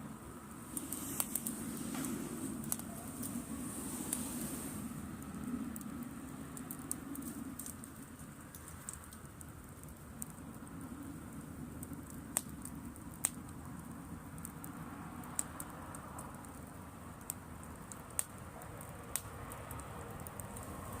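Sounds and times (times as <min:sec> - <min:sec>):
campfire flames rushing: 0:00.0 - 0:21.0
fire crackles and pops: 0:00.0 - 0:21.0.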